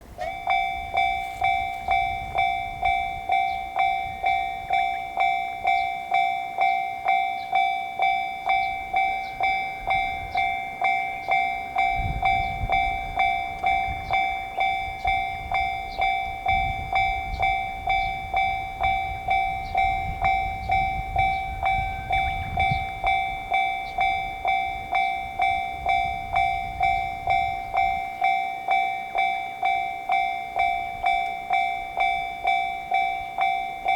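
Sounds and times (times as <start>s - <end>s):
low rumble of passing train: 0.0s - 33.9s
railroad crossing electronic bell: 0.0s - 33.9s.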